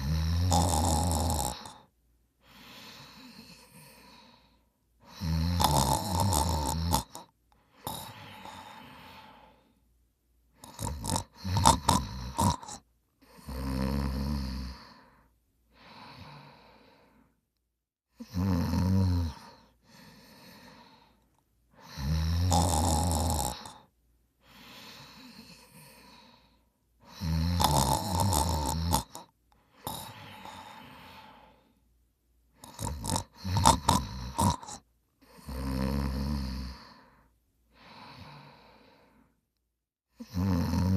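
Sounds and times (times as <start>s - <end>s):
person snoring: 0.0s - 9.8s, 10.6s - 17.4s, 18.2s - 31.8s, 32.6s - 39.4s, 40.1s - 40.9s
quiet breathing out: 0.0s - 17.6s, 19.1s - 39.6s.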